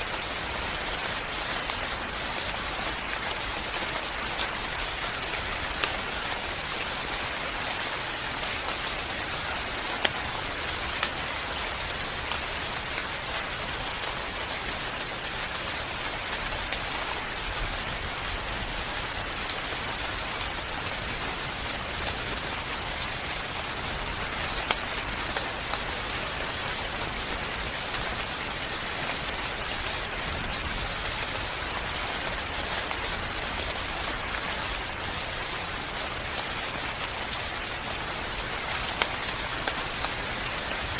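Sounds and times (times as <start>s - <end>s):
raindrop ticks: 0.0s - 40.9s
steady rain hissing: 0.0s - 40.9s.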